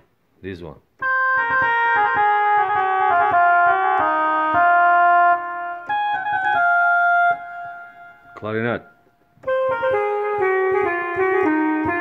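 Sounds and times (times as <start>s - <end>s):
keyboard playing slow melody: 1.0s - 12.0s.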